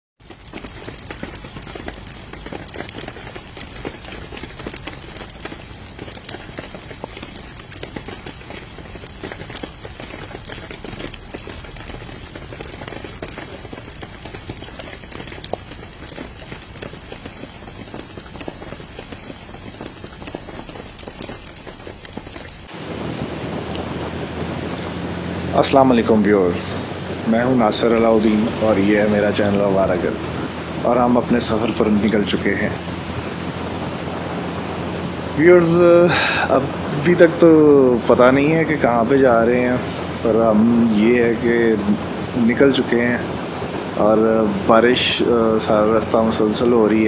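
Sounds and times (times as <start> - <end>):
rain pattering: 0.2 - 47.0.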